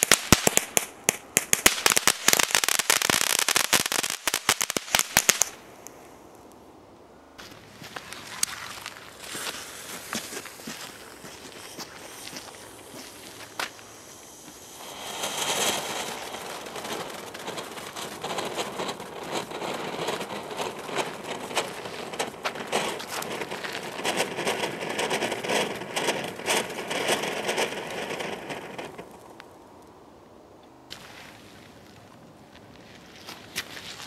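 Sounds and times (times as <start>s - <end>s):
firework fountain hissing and crackling: 0.0s - 5.6s, 7.4s - 29.8s, 30.9s - 32.0s.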